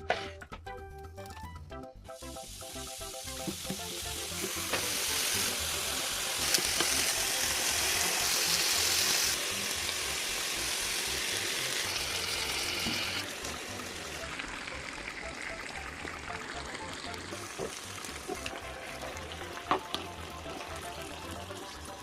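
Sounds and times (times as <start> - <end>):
food sizzling in hot oil: 2.2 - 22.0.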